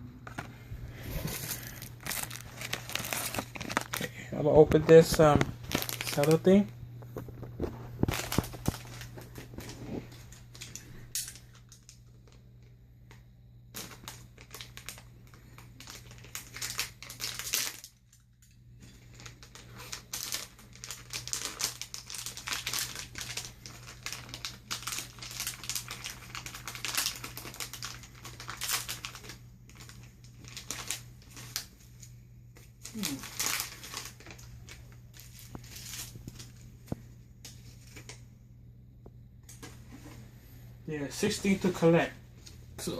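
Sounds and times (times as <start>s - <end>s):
cellophane crinkling and tearing: 1.0s - 38.2s.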